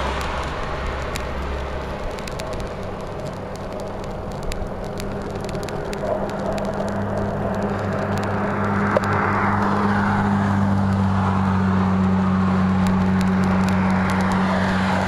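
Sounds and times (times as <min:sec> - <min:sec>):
bicycle clicking: 0:00.0 - 0:15.0
rushing noise: 0:00.0 - 0:15.0
vehicle engine humming: 0:00.0 - 0:15.0.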